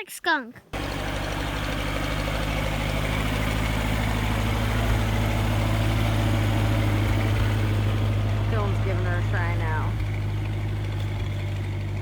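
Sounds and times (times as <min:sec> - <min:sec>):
snow vehicle engine humming: 0:00.7 - 0:12.0.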